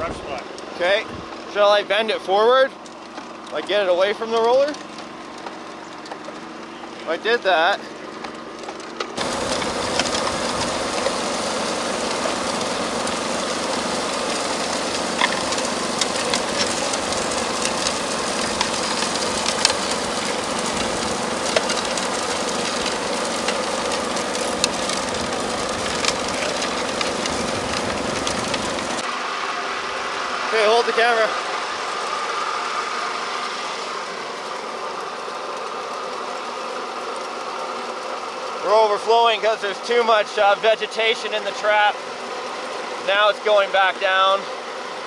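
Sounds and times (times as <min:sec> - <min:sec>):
small engine running: 0:00.0 - 0:45.0.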